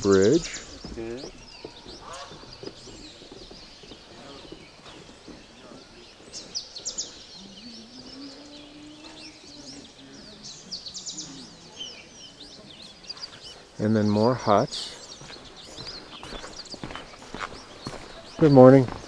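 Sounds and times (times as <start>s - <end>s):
birds calling and chirping: 0.0s - 19.0s.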